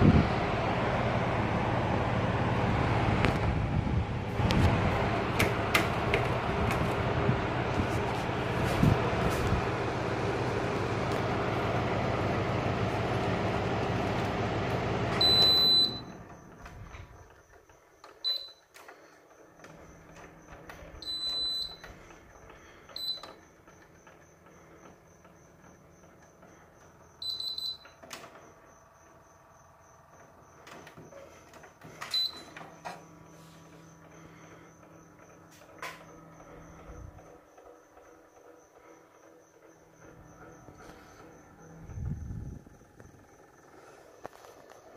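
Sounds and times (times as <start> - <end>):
air conditioner fan humming: 0.0 - 44.9.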